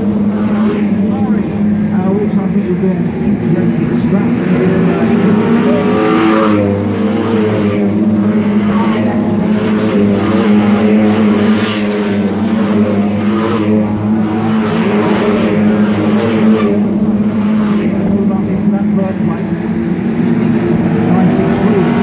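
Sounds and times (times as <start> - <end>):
racing car engines roaring: 0.0 - 22.0.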